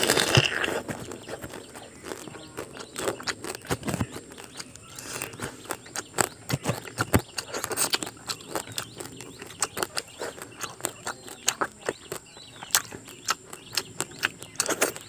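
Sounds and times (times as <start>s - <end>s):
chewing and crunching crab: 0.0s - 15.0s.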